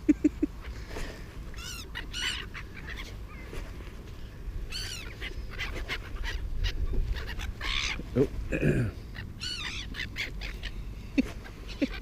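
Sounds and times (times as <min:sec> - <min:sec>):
steady low rumble: 0:00.0 - 0:12.0
seagulls calling: 0:00.4 - 0:12.0.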